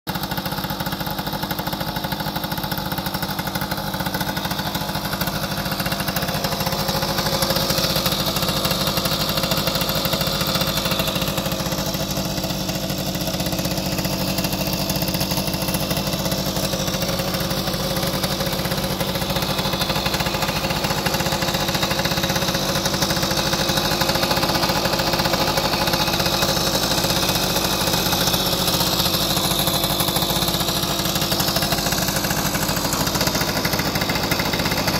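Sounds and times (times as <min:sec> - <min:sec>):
moped engine idling: 0:00.1 - 0:34.9.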